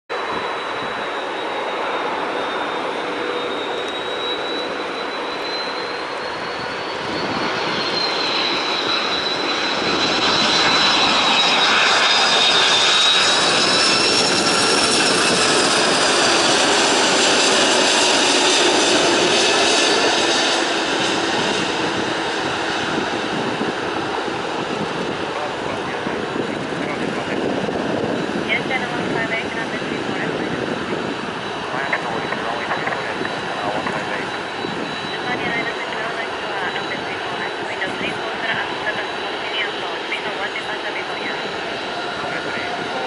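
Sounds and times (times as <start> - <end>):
jet engines rushing and whining: 0.1 - 43.0.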